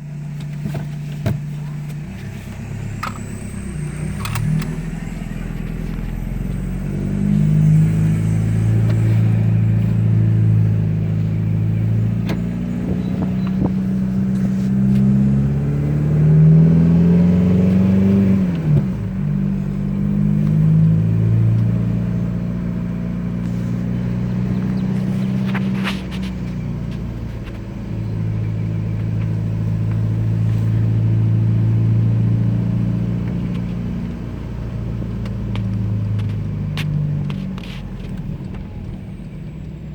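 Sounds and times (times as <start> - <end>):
diesel car engine driving: 0.0 - 39.9.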